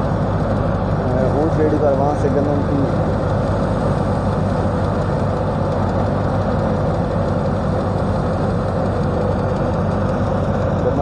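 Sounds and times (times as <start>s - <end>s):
mechanical noise of threshing machine: 0.0s - 11.0s
thresher engine drone: 0.0s - 11.0s.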